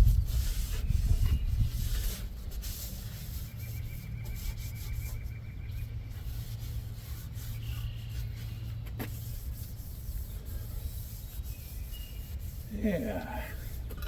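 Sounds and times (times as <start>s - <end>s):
hand scrubbing rusty steel: 0.0s - 14.0s.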